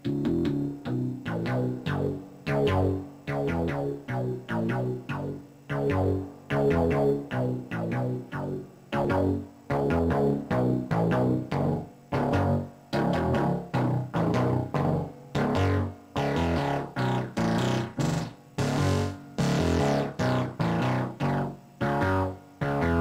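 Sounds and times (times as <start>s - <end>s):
synthesizer playing short notes: 1.2s - 23.0s.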